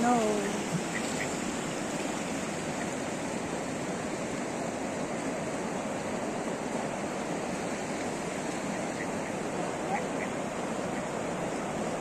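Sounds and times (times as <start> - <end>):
fast-flowing river: 0.0 - 12.0.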